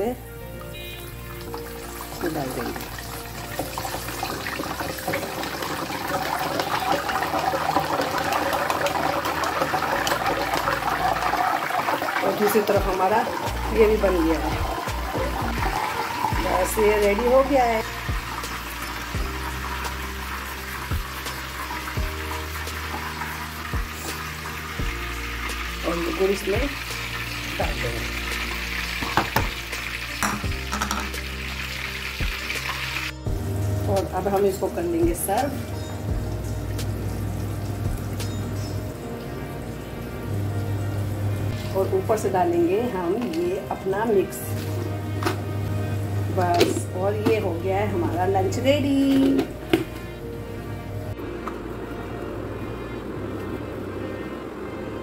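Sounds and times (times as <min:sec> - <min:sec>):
onions sizzling in hot oil: 0:00.0 - 0:50.2
background music: 0:00.0 - 0:55.0.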